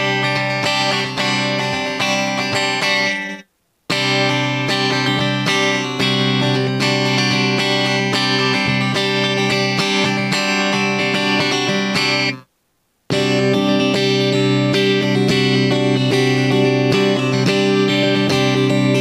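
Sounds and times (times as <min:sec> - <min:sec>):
electric guitar chords: 0:00.0 - 0:12.4, 0:13.1 - 0:19.0.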